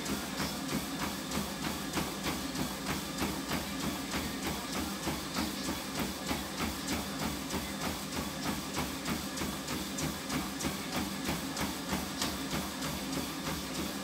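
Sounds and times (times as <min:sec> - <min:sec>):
feet pounding treadmill belt: 0:00.0 - 0:14.0
treadmill motor humming: 0:00.0 - 0:14.0.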